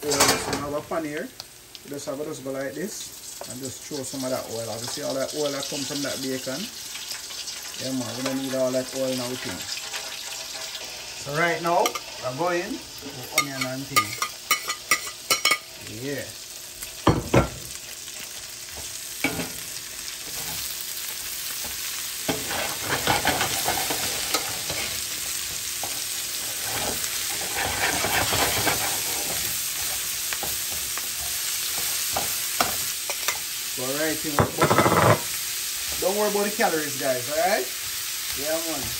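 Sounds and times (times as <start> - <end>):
onions sizzling in a pan: 0.0 - 38.9.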